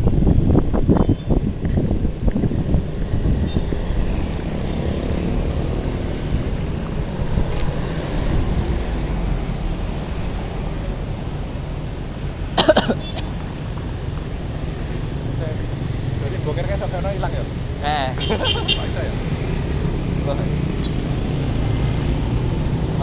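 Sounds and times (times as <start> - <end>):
passing cars and motorbikes: 0.0 - 23.0.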